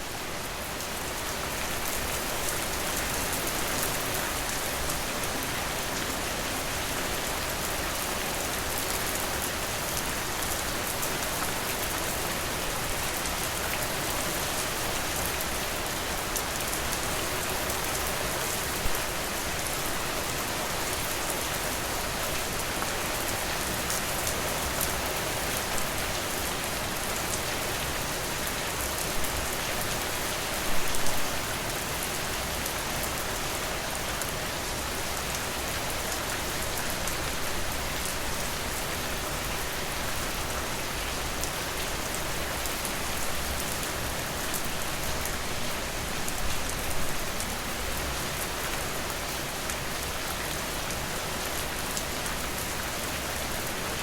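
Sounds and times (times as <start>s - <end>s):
dense rain pattering: 0.0s - 54.0s.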